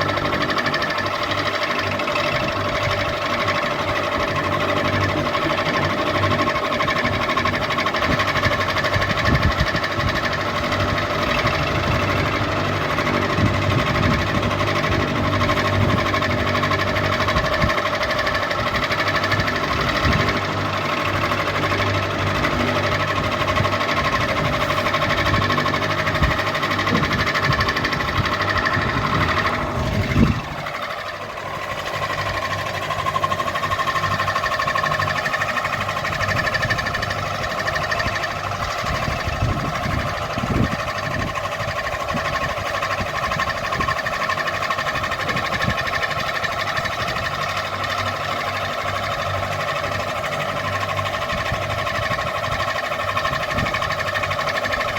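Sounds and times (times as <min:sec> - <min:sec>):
ceiling fan humming and rattling: 0:00.0 - 0:54.9.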